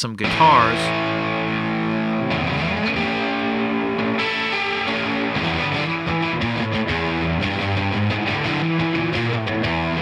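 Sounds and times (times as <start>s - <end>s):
guitar with plate reverb: 0.1s - 10.0s.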